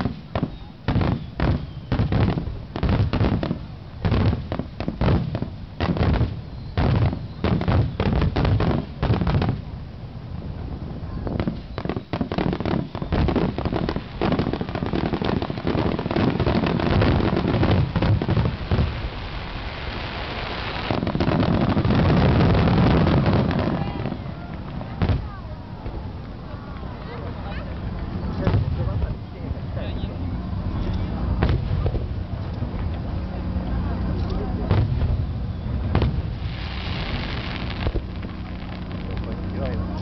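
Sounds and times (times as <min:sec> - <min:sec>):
fireworks bangs: 0:00.0 - 0:09.8, 0:11.2 - 0:29.3, 0:30.6 - 0:40.0.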